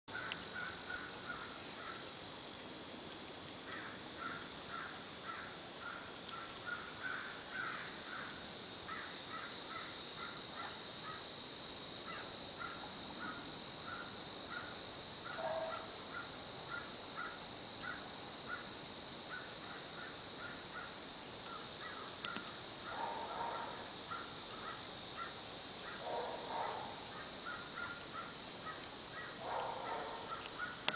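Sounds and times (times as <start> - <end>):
high drone of insects: 0.1 - 30.9.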